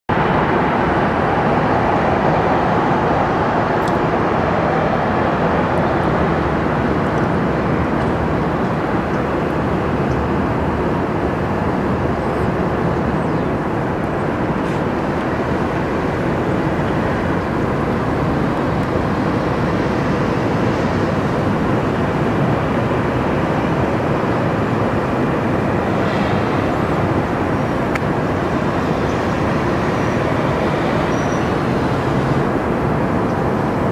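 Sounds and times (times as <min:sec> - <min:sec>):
jet engines rumbling: 0:00.1 - 0:33.9.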